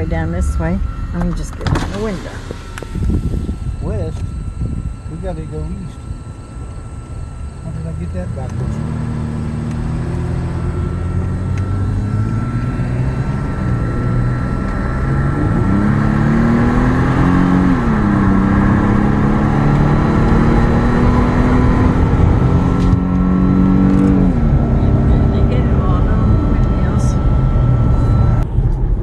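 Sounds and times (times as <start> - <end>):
road noise: 0.0 - 29.0
truck engine from inside cab: 0.0 - 29.0.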